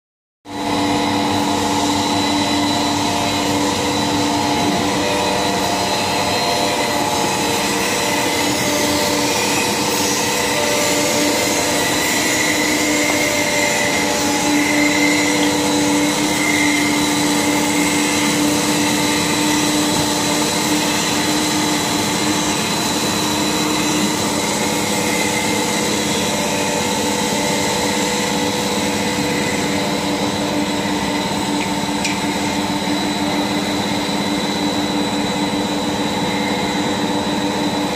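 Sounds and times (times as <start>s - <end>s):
machine hum with held tones: 0.5s - 37.9s.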